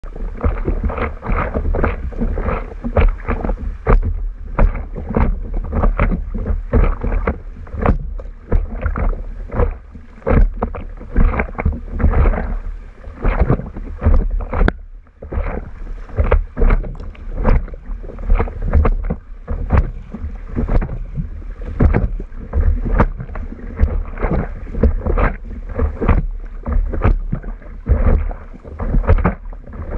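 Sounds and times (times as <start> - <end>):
low rumble: 0.0 - 29.9
water slapping against paddleboard: 0.0 - 29.9.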